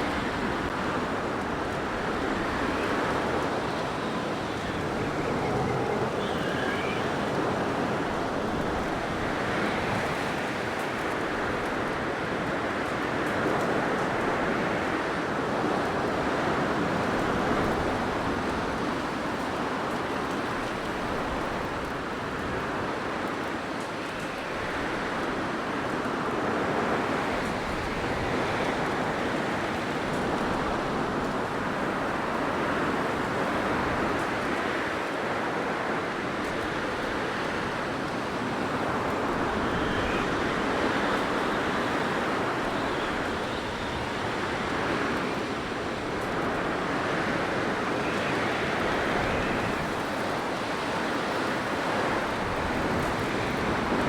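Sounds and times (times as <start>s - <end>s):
blizzard wind blowing: 0.0s - 54.0s.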